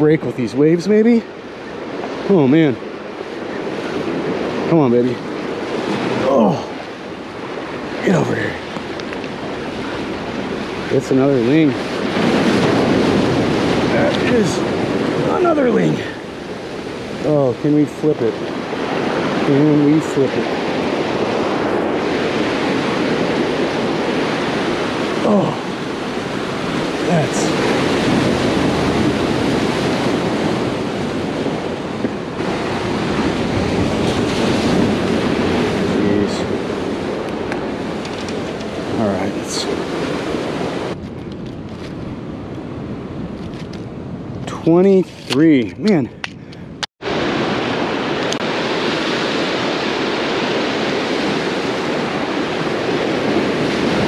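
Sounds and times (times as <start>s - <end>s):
ocean surf breaking on boulders: 0.0s - 54.0s
wind rumbling on microphone: 0.0s - 54.0s.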